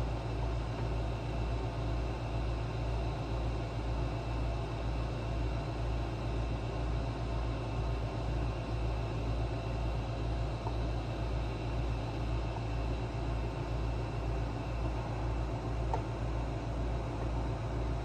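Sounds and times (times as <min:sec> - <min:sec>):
low throbbing mechanical hum: 0:00.0 - 0:18.0.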